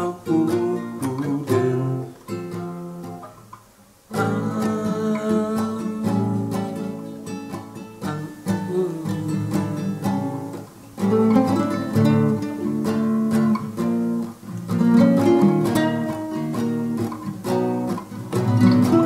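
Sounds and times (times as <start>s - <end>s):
classical acoustic guitar: 0.0s - 19.0s.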